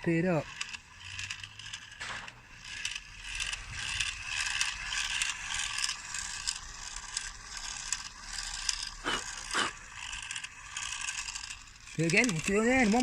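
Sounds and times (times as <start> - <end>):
toy pump ratcheting and whirring: 0.0 - 13.0.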